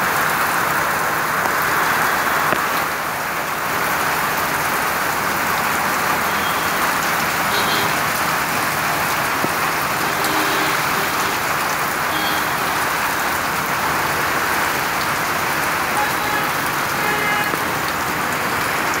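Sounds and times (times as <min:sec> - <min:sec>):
heavy rain on wet pavement: 0:00.0 - 0:19.0.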